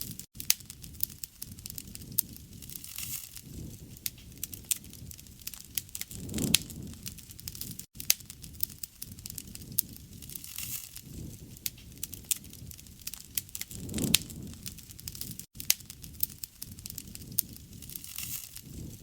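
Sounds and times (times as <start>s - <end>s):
low rush of flame: 0.0s - 19.0s
wood fire crackling and popping: 0.0s - 19.0s.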